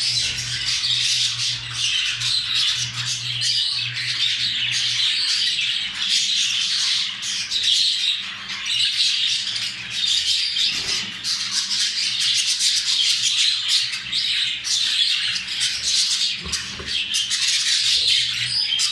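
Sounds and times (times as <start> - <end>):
budgerigars chattering and warbling: 0.0 - 18.9.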